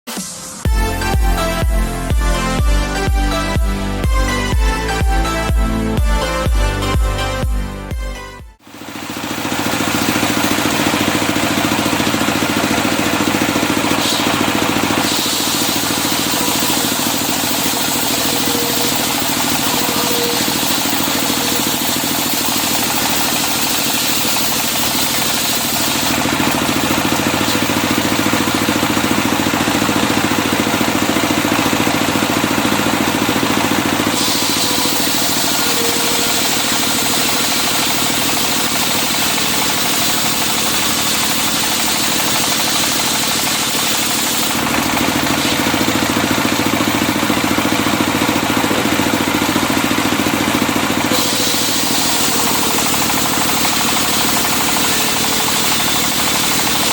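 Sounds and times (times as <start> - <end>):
circular sawmill running: 8.6 - 56.9.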